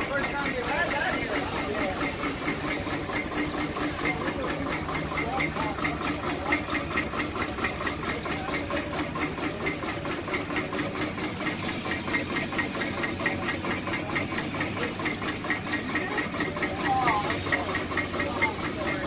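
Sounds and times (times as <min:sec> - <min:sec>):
steam engine exhaust beat: 0:00.0 - 0:19.0
steam hissing: 0:00.0 - 0:19.0.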